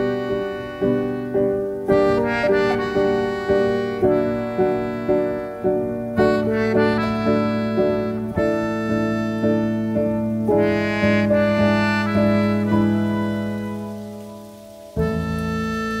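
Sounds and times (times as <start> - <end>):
melodica melody: 0.0 - 14.0, 15.0 - 16.0
piano chords: 0.0 - 16.0.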